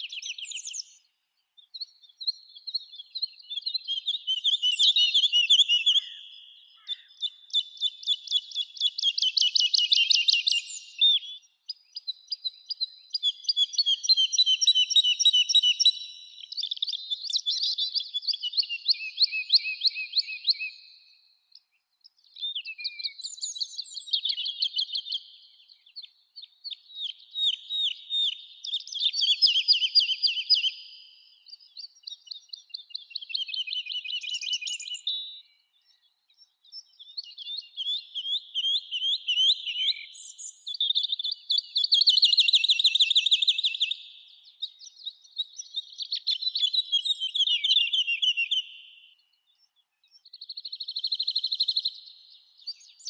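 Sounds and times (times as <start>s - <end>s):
songbirds singing trills: 0.0s - 53.0s.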